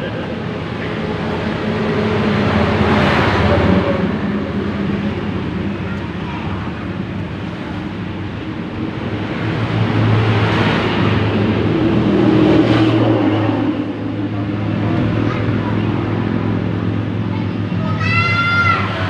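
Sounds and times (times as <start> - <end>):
vehicle engine passing: 0.0 - 18.0
background traffic noise: 0.0 - 19.0.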